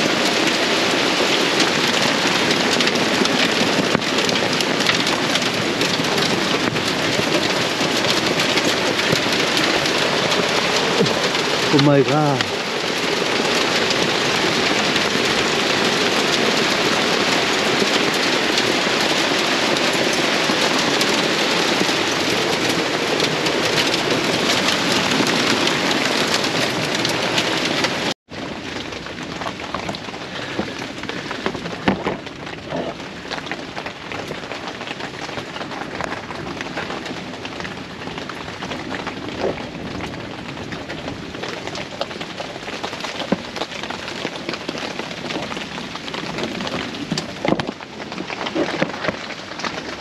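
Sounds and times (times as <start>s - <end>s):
heavy rain pouring: 0.0s - 50.0s
raindrops striking a surface: 0.0s - 50.0s.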